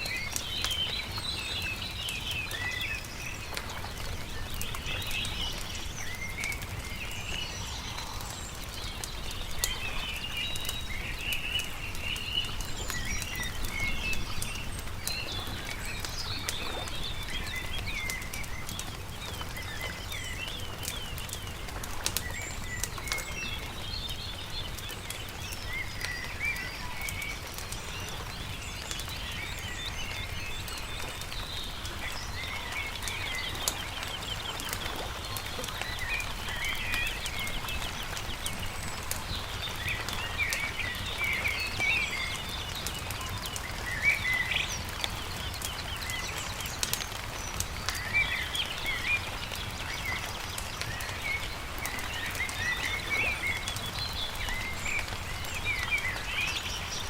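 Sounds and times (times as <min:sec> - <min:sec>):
campfire crackling: 0:00.0 - 0:57.0
songbirds chirping and singing: 0:00.0 - 0:57.0.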